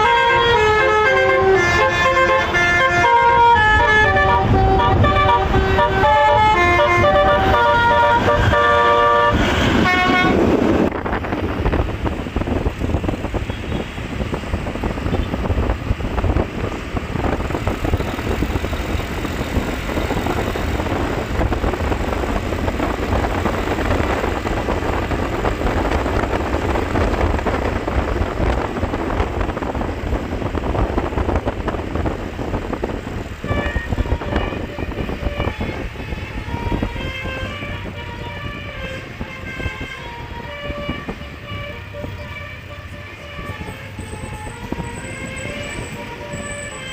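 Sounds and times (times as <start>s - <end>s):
vehicle engine and road noise: 0.0s - 46.9s
wind buffeting microphone: 0.0s - 46.9s.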